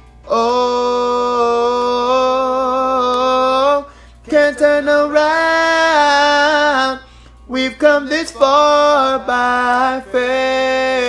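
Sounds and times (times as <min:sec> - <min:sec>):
man singing a cappella harmony: 0:00.0 - 0:11.0.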